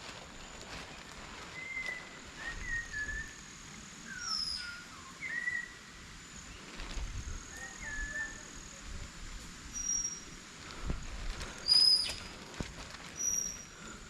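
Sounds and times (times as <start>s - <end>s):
birds chirping whistled notes: 0.4s - 8.8s, 9.7s - 10.5s, 11.6s - 14.0s.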